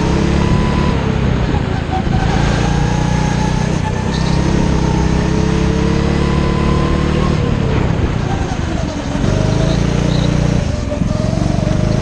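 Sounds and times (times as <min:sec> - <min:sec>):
go-kart engine accelerating: 0:00.0 - 0:12.0.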